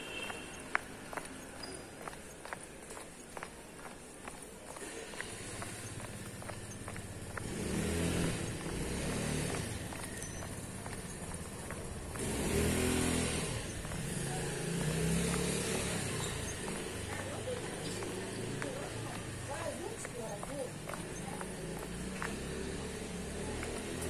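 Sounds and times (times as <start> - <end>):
cars driving past: 4.3 - 24.0.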